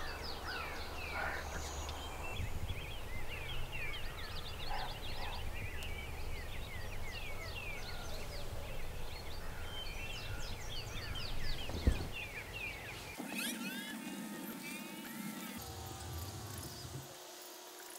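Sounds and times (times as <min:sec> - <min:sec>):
songbirds singing: 0:00.0 - 0:17.8.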